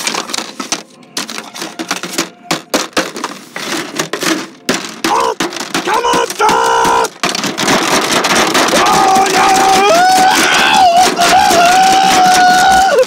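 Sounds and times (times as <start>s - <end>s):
rapid clicking and crackling: 0.0s - 13.0s
sharp knocks: 0.0s - 13.0s.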